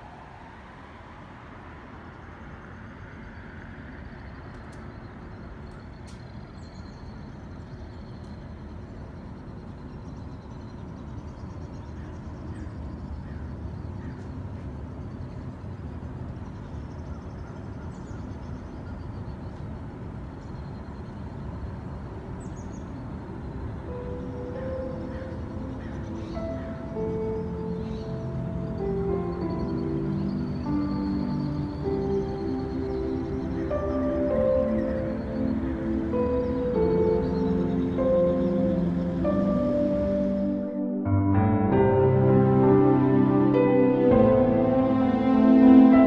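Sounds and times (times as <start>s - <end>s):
faint high bird chirps: 2.8s - 40.8s.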